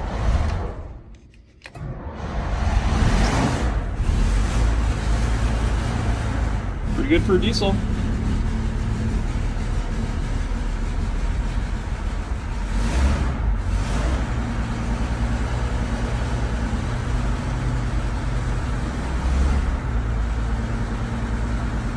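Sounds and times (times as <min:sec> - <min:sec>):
diesel bus engine idling: 0:03.8 - 0:21.9.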